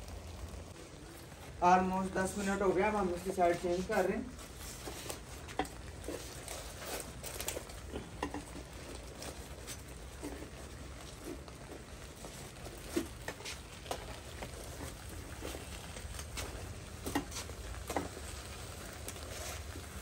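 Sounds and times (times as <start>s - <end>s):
foil crinkling: 2.2s - 20.0s.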